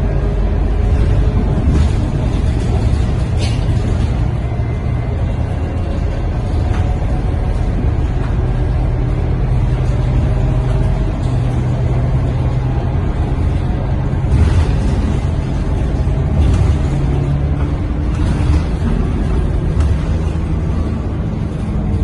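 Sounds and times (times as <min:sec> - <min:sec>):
diesel bus engine running: 0:00.0 - 0:22.0.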